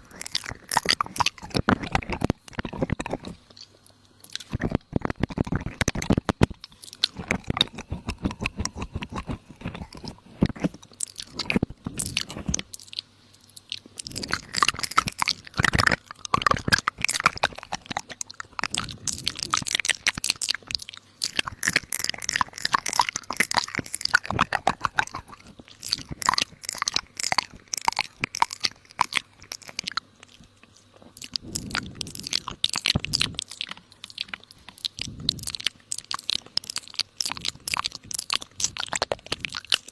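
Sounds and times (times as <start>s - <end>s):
crunching and chewing crisp food: 0.0s - 39.9s.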